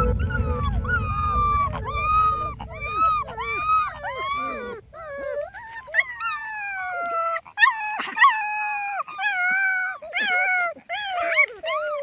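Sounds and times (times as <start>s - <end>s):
puppy whining: 0.0s - 12.0s.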